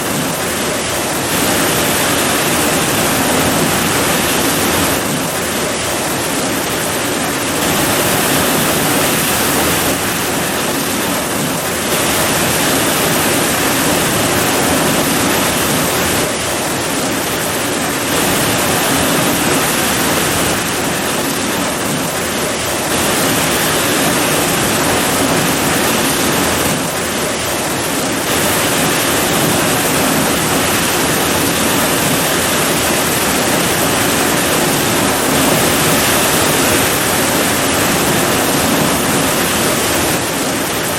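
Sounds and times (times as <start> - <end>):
heavy rain pouring: 0.0 - 27.5, 28.2 - 40.9.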